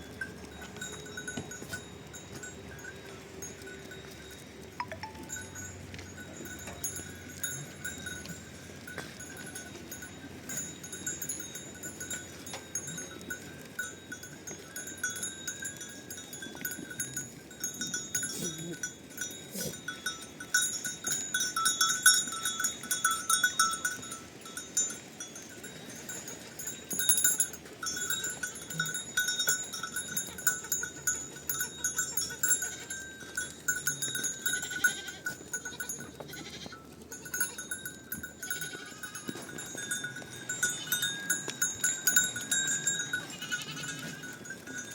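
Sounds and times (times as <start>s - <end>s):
livestock bells jangling: 0.0s - 44.9s.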